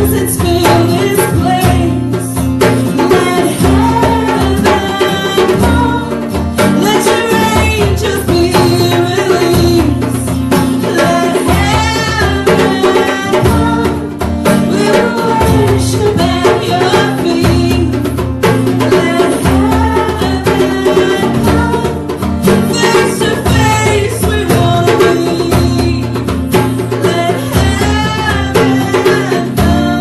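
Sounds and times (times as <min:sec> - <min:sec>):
people singing: 0:00.0 - 0:30.0
worship band playing: 0:00.0 - 0:30.0.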